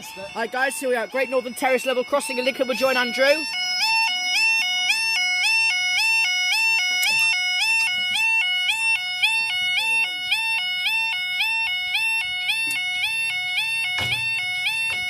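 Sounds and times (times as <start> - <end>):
electronic two-tone alarm: 0.0 - 15.0.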